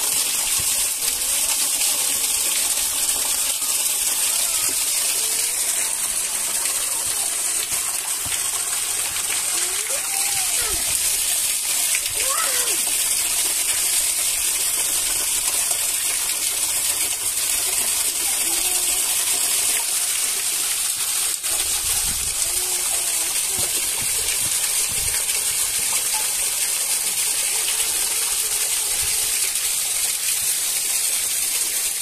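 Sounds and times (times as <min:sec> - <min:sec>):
running water hiss: 0:00.0 - 0:32.0.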